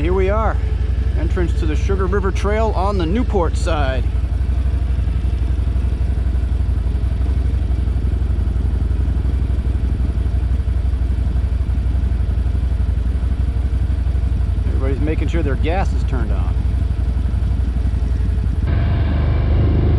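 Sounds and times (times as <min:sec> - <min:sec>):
atv engine idling: 0:00.0 - 0:19.3.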